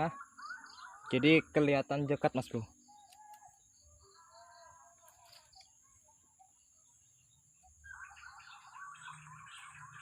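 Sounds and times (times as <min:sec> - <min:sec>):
distant birds calling: 0:00.0 - 0:10.0.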